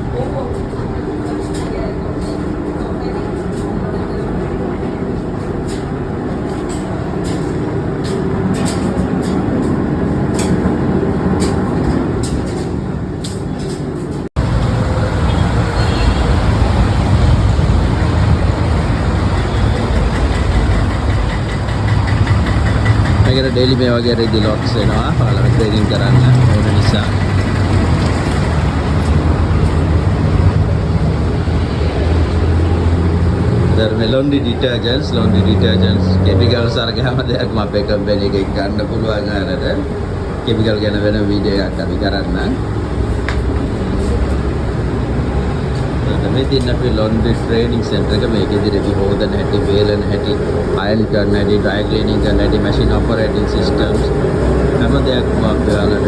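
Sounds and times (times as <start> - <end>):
laundry machinery rumble and hum: 0.0 - 56.0.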